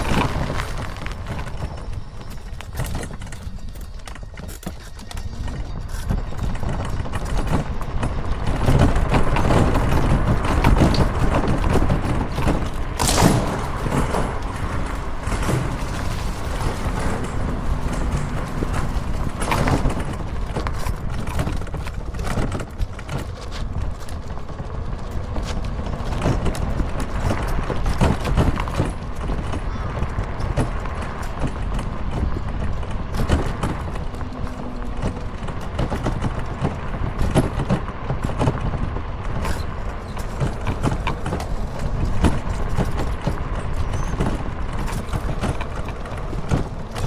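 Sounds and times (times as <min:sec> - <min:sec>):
wheels rattling over pavement: 0:00.0 - 0:47.0
wind rumbling over microphone: 0:00.0 - 0:47.0.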